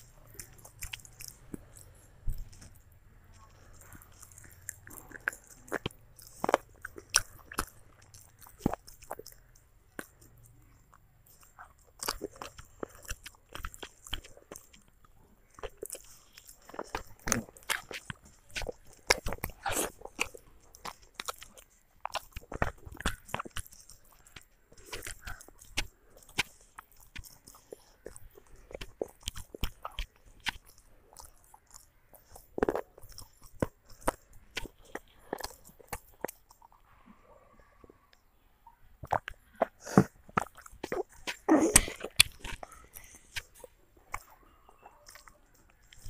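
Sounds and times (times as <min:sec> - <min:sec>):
child chewing: 0:00.0 - 0:46.0.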